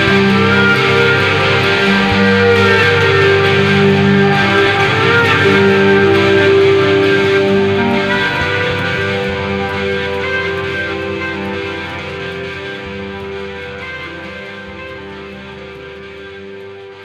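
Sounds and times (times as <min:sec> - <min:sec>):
guitar-led background music: 0:00.0 - 0:17.0.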